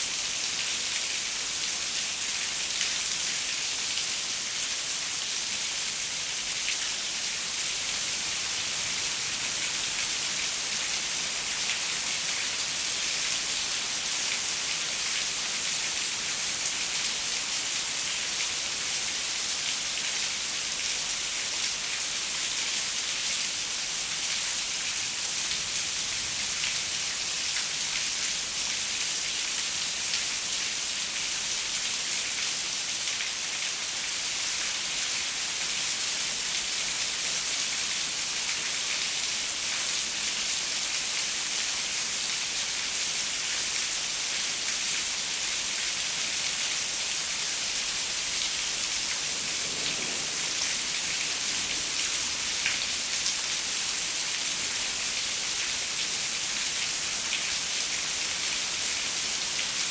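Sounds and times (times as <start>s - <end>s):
rain on a window pane: 4.7s - 59.9s.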